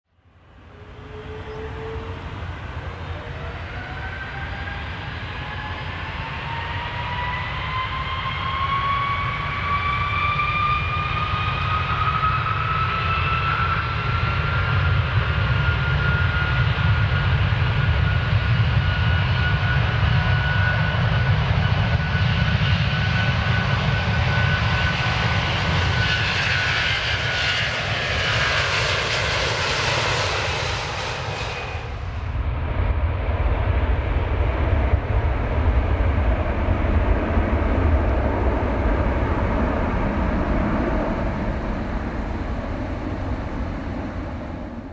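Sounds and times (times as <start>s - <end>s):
airplane engine whine: 0.1s - 44.9s.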